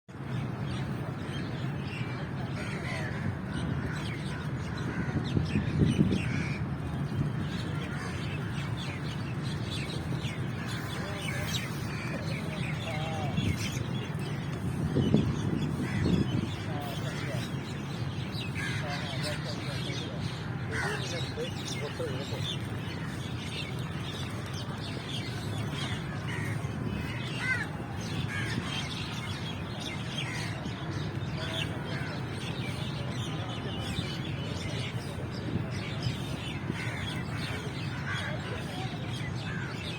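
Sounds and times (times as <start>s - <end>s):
birds calling: 0.4s - 39.9s.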